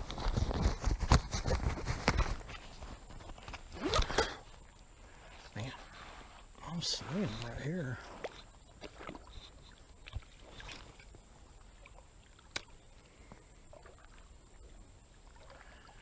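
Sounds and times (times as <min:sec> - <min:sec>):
creek water sloshing: 0:00.0 - 0:16.0.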